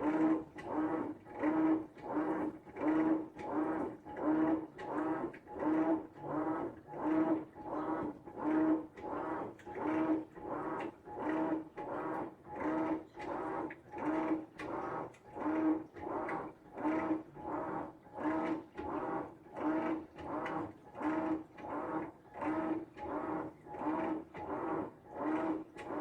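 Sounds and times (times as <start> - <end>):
washing machine agitator swishing: 0.0 - 26.0
washing machine motor hum: 0.0 - 26.0.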